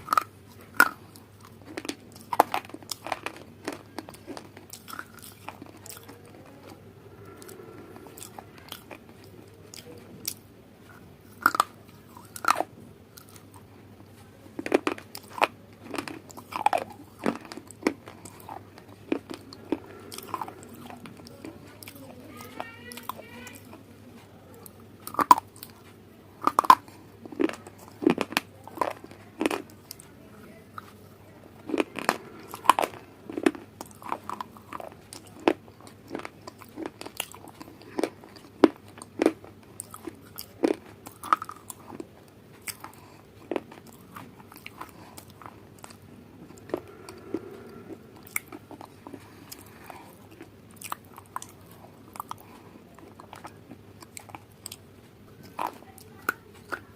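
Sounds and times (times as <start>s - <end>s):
chewing crunchy food: 0.0s - 56.9s.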